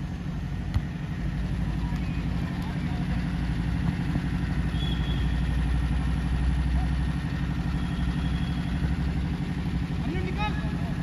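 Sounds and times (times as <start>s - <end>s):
engine idling rumble: 0.0s - 11.0s.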